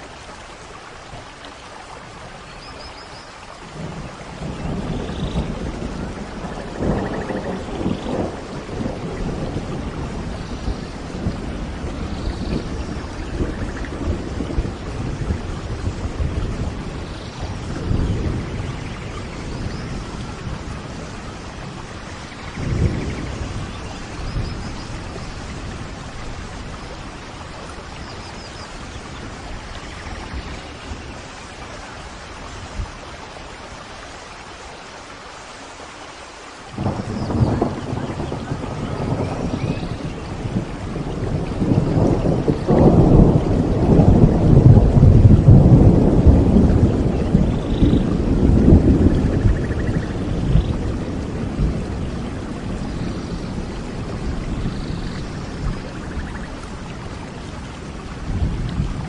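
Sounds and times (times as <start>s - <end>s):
steady rain falling: 0.0s - 59.0s
rolling thunder: 3.7s - 33.0s, 36.8s - 59.0s.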